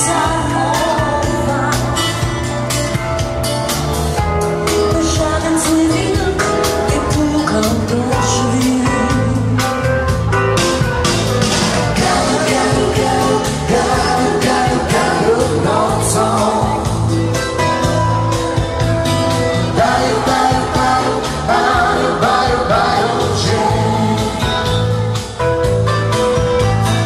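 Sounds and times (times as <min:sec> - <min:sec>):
dance band playing: 0:00.0 - 0:27.0.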